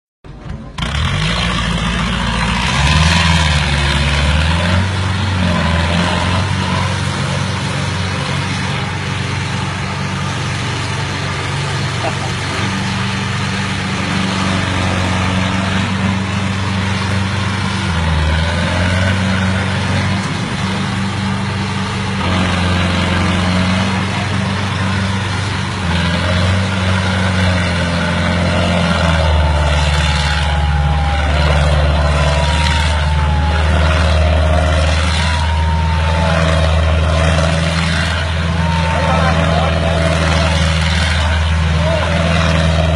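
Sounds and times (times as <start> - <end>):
tractor engine revving: 0.2 - 42.9.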